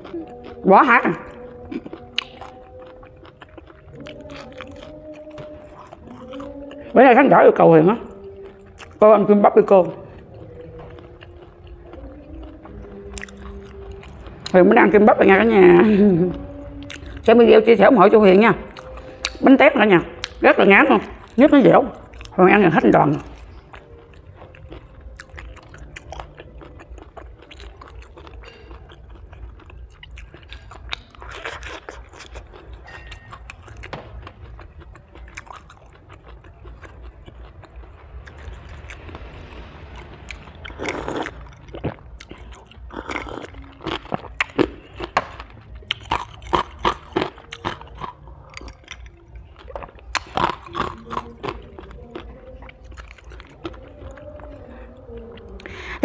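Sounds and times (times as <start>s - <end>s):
person chewing: 0.0s - 56.0s
steady low hum: 0.0s - 56.0s.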